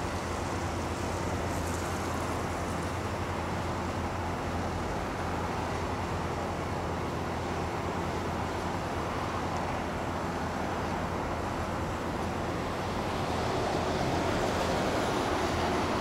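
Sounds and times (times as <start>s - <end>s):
diesel paving machinery rumbling: 0.0s - 16.0s.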